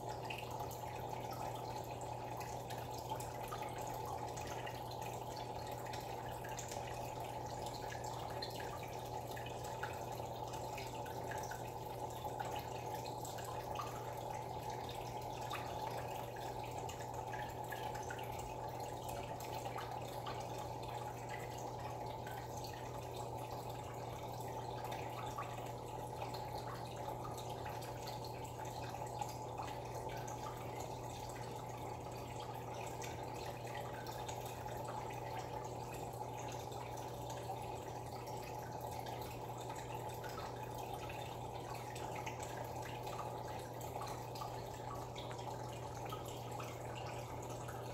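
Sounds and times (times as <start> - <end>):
water trickling and splashing: 0.0 - 47.9.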